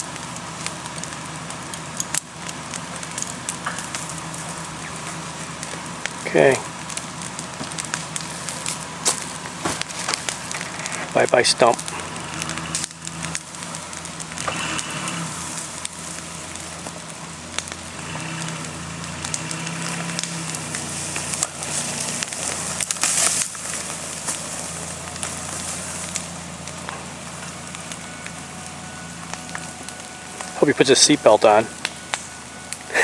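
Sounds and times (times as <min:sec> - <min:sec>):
loud crunch: 0:00.0 - 0:27.9
engine running under load: 0:00.0 - 0:33.0
wood crackling and snapping: 0:00.0 - 0:33.0.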